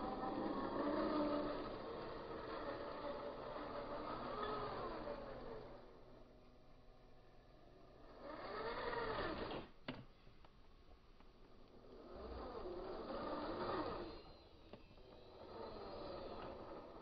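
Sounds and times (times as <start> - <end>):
electric motors whining: 0.0 - 9.8, 11.4 - 17.0.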